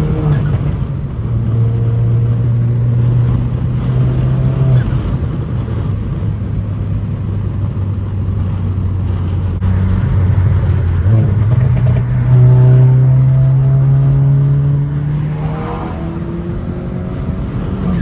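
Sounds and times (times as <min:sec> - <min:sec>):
car exhaust droning: 0:00.0 - 0:18.0.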